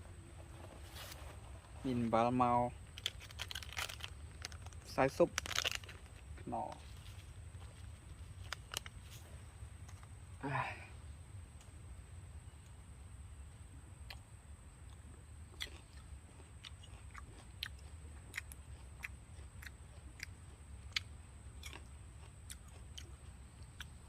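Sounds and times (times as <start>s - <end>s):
crunchy chewing of fruit: 0.0s - 10.7s, 12.4s - 24.0s.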